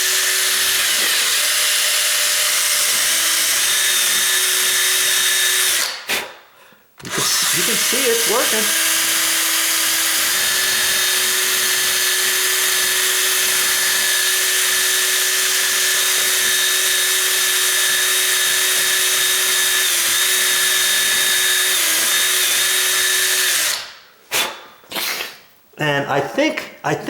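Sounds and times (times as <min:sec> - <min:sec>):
electric drill whining into wood: 0:00.0 - 0:06.1, 0:07.0 - 0:24.0.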